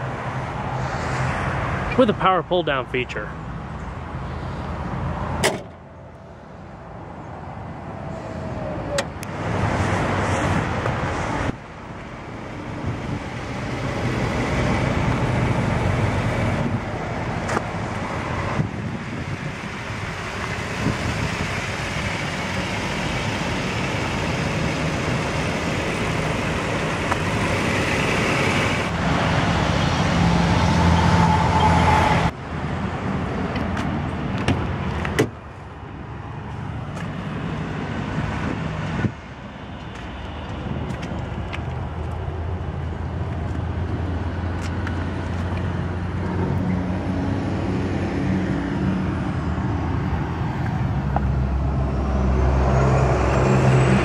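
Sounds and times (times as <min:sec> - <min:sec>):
motor vehicle noise: 0:00.0 - 0:54.0.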